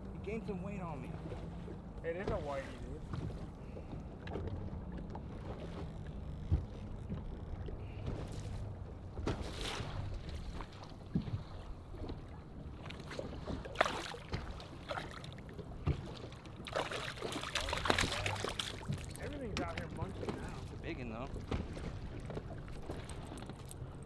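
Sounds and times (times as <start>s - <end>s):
waves lapping against boat hull: 0.0s - 24.0s
water splashes: 0.3s - 6.6s, 7.6s - 24.0s.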